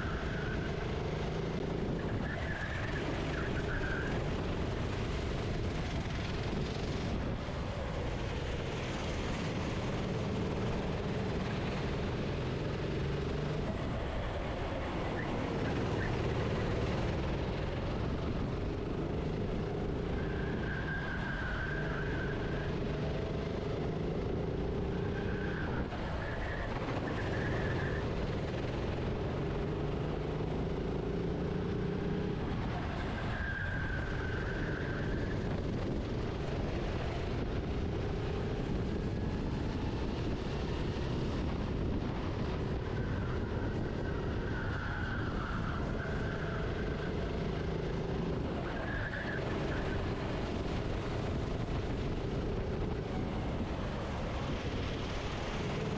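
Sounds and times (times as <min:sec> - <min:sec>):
go-kart engine: 0:00.0 - 0:55.9.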